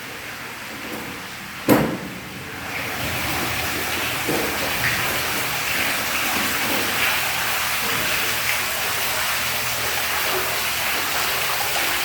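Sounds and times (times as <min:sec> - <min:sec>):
water rushing hiss: 0:00.6 - 0:12.0.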